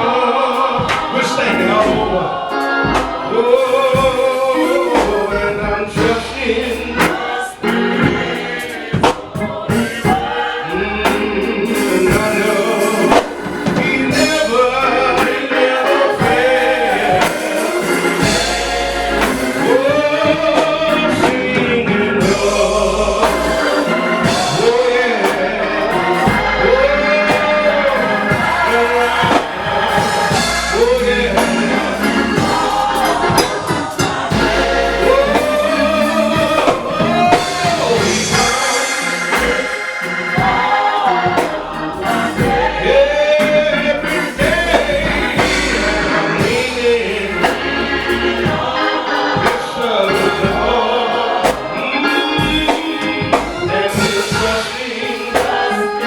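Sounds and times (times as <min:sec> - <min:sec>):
choir singing: 0:00.0 - 0:56.0
instrumental backing music: 0:00.0 - 0:56.0
person singing: 0:09.7 - 0:56.0.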